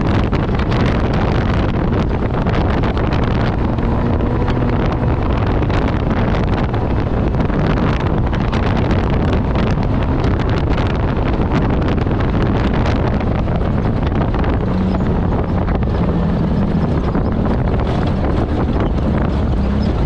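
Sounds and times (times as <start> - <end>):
knocks and rattles: 0.0 - 20.0
race vehicle engine: 0.0 - 20.0
wind on microphone: 0.0 - 20.0.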